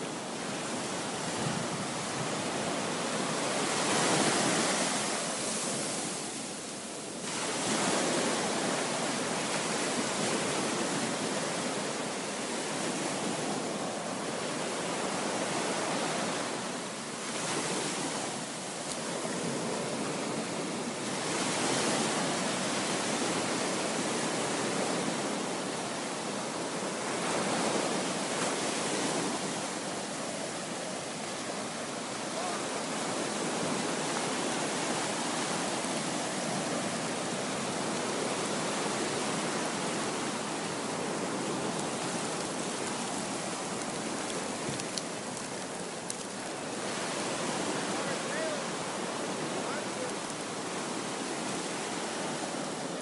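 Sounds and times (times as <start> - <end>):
waves breaking on beach: 0.0 - 53.0.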